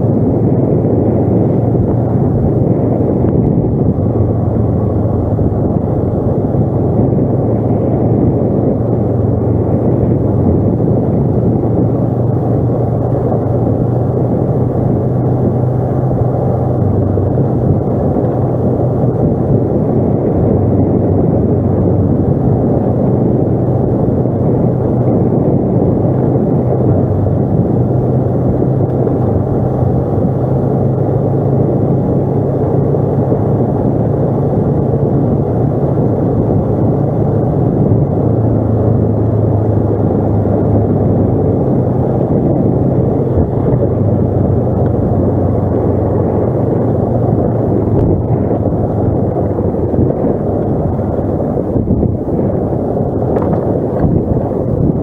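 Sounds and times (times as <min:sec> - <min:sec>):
atv engine humming: 0:00.0 - 0:55.0
dense rumble from riding: 0:00.0 - 0:55.0.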